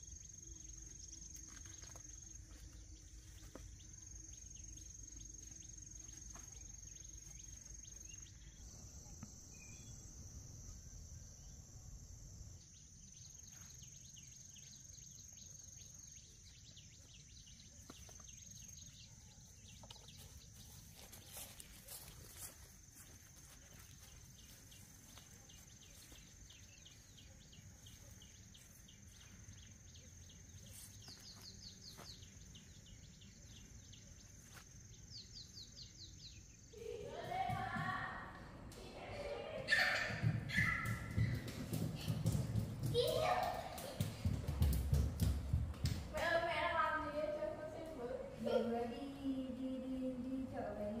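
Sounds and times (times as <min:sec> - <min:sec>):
crickets chirping: 0:00.0 - 0:51.0
insects droning: 0:00.0 - 0:51.0.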